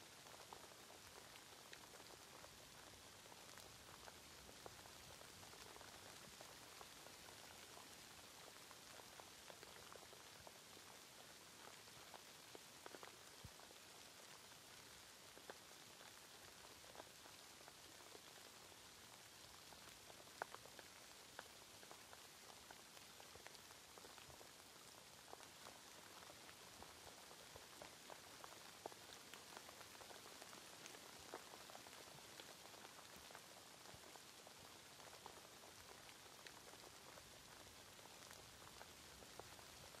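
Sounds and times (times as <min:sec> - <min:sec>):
faint rain hiss: 0:00.0 - 0:40.0
raindrops ticking on a surface: 0:00.0 - 0:40.0.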